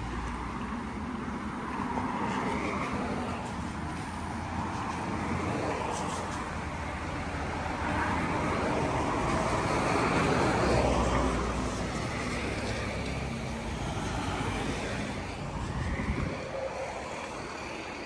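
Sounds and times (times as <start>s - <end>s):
cars passing on street: 0.0s - 18.0s.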